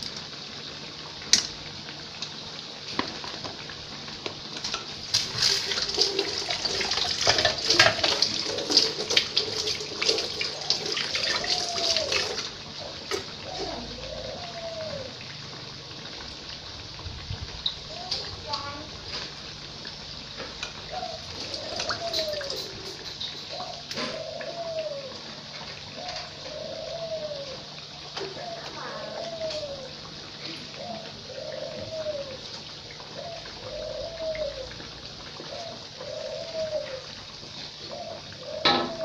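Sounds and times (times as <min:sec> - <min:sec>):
food deep-frying in oil: 0:00.0 - 0:39.0.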